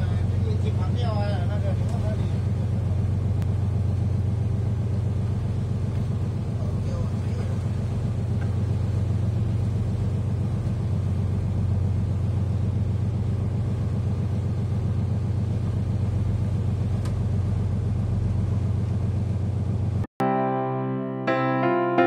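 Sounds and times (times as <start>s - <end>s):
boat engine droning: 0.0s - 18.6s.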